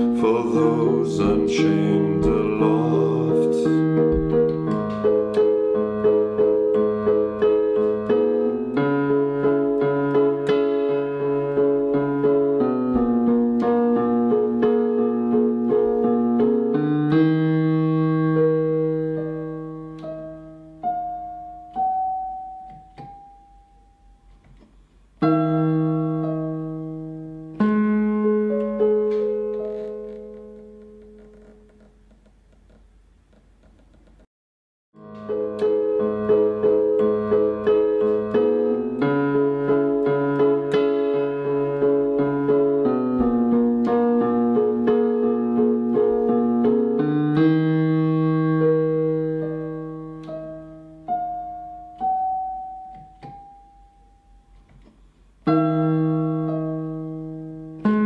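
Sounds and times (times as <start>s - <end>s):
slow piano music: 0.0s - 33.3s, 35.0s - 58.0s.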